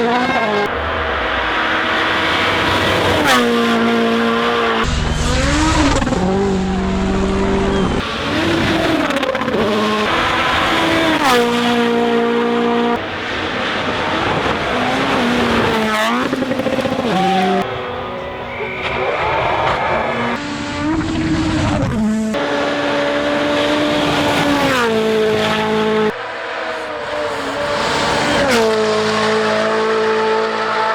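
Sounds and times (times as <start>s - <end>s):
rally car engines at full throttle: 0.0s - 30.9s.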